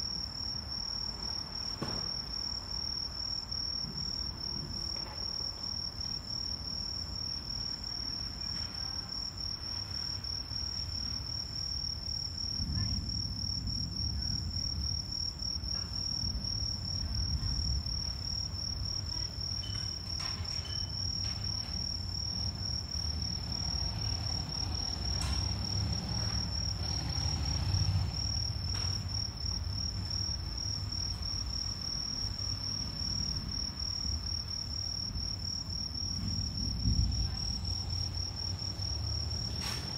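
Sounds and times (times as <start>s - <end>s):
night insects chirring: 0.0s - 39.9s.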